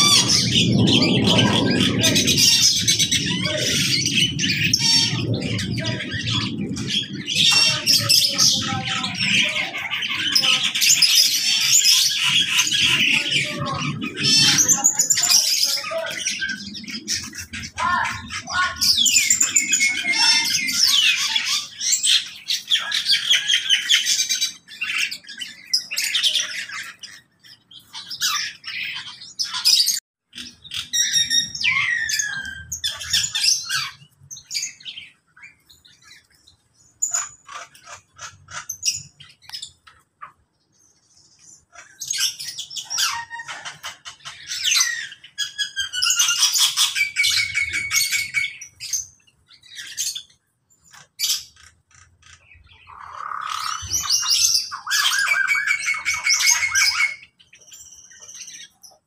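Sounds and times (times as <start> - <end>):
cage birds chirping and squawking: 0.0 - 59.0.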